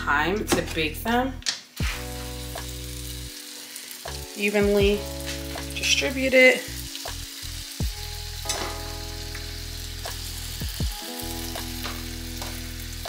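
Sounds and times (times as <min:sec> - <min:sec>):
potatoes sizzling in oil: 0:01.8 - 0:13.0.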